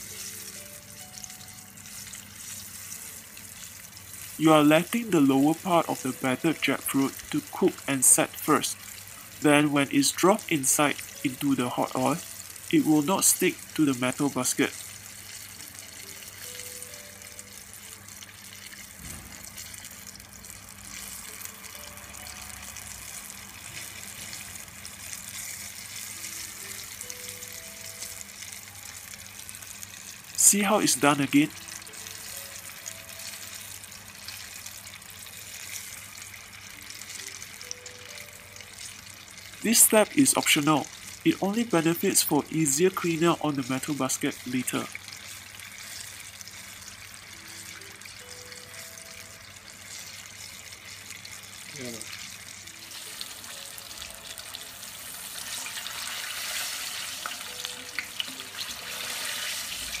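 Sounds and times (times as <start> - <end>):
oil sizzling and crackling: 0.0 - 60.0.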